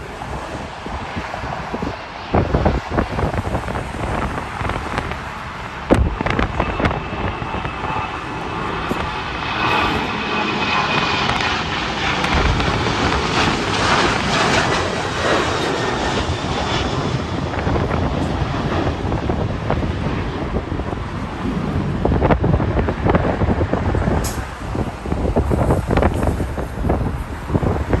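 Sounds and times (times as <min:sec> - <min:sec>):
jet engines passing: 0:00.0 - 0:28.0
wind buffeting microphone: 0:00.0 - 0:28.0.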